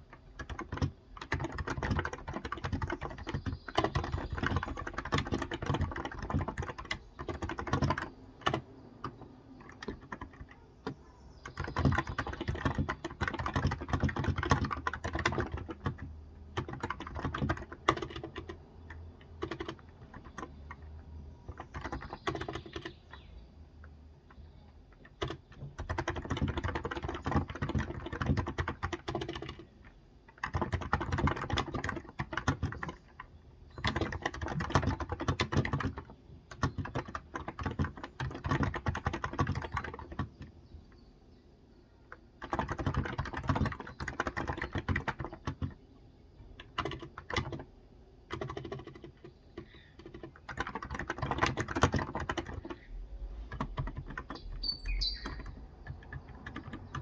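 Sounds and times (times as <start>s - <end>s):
keyboard typing: 0.0s - 40.6s, 42.0s - 57.0s.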